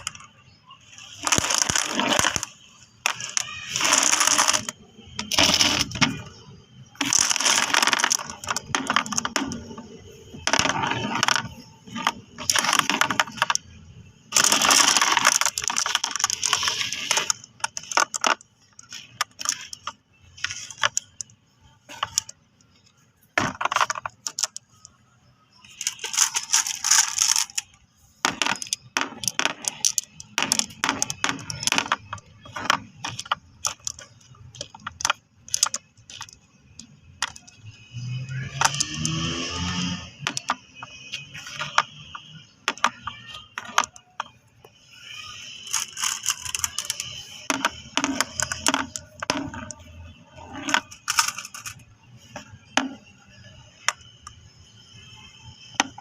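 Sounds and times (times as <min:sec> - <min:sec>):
marbles clattering: 0:00.0 - 0:56.0.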